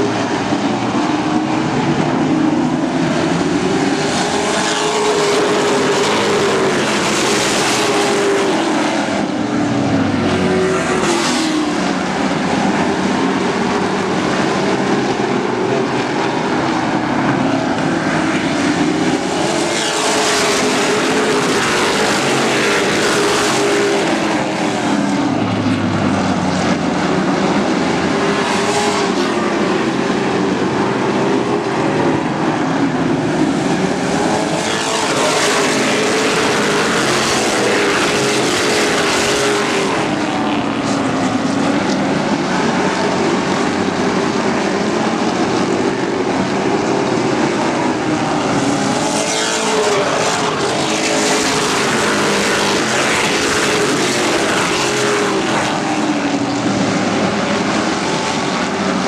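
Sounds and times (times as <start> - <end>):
race truck engines roaring: 0.0 - 59.0.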